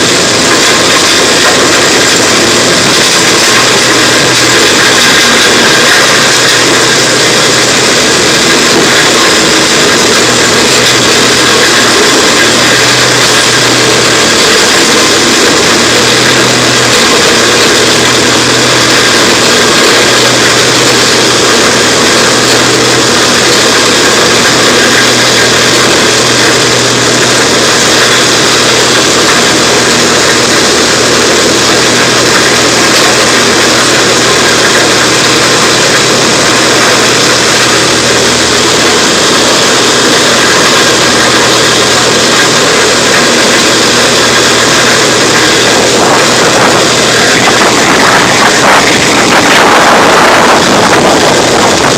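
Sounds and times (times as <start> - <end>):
loud rushing noise: 0.0 - 51.9
wood chipper engine drone: 0.0 - 51.9.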